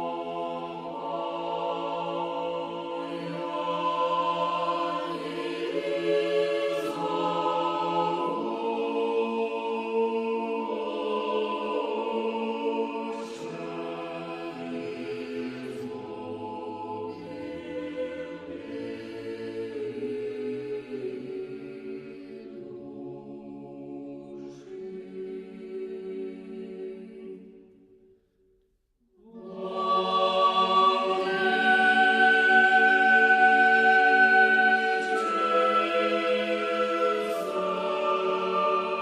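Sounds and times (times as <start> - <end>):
choir singing a chant: 0.0 - 28.0, 29.1 - 39.0.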